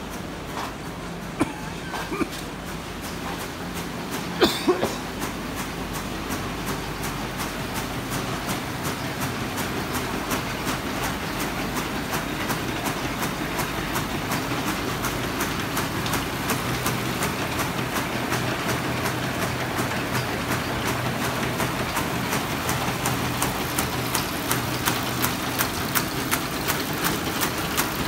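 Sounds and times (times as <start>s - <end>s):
printing press clattering: 0.0s - 28.0s.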